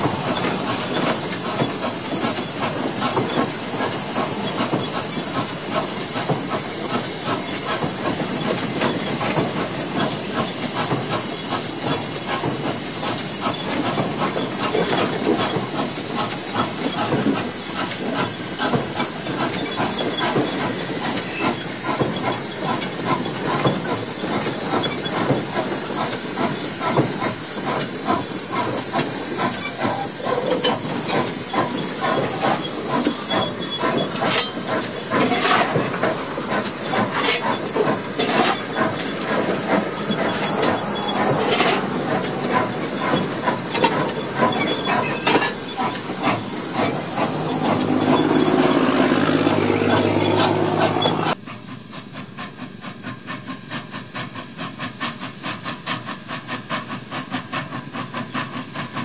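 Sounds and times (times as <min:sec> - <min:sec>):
rattling and clanking of machinery: 0:00.0 - 0:51.4
steam hissing: 0:00.0 - 0:59.0.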